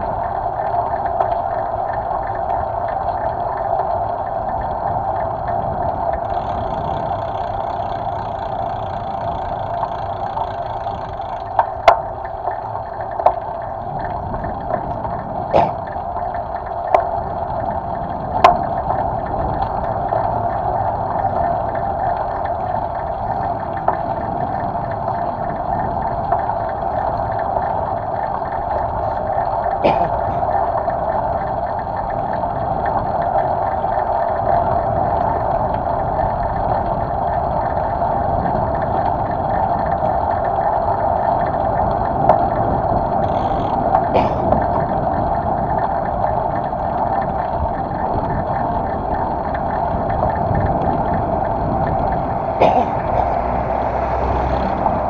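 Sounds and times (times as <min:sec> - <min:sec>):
bicycle road noise: 0:00.0 - 0:55.0
wind rush: 0:00.0 - 0:55.0.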